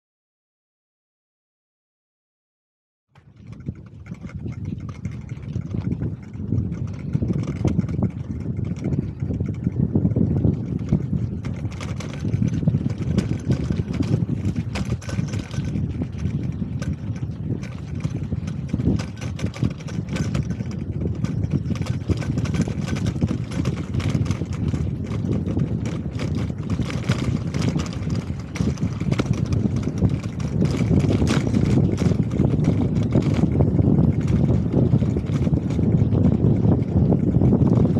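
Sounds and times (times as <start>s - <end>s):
bicycle road rumble: 3.1s - 37.9s
light rattles and clicks: 3.2s - 37.9s
wind buffeting microphone: 3.2s - 37.9s.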